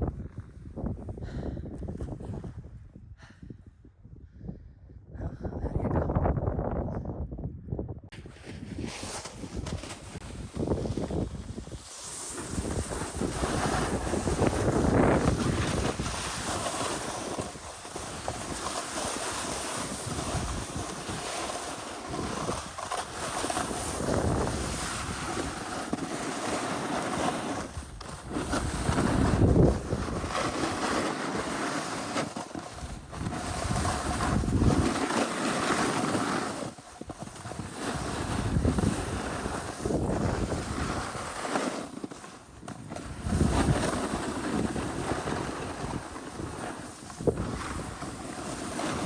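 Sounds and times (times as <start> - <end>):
wind buffeting microphone: 0.0 - 21.4, 22.0 - 25.7, 27.6 - 30.9, 32.7 - 35.1, 37.0 - 41.3, 42.6 - 49.0.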